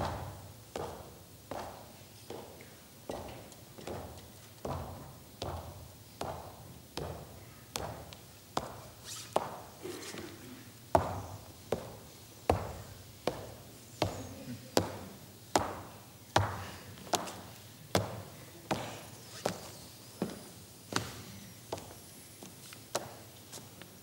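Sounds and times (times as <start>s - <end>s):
hard-soled footsteps on stage: 0.0s - 10.4s, 11.0s - 24.0s.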